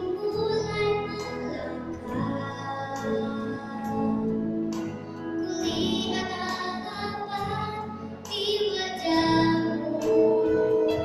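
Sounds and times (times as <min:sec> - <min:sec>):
musical accompaniment: 0:00.0 - 0:11.0.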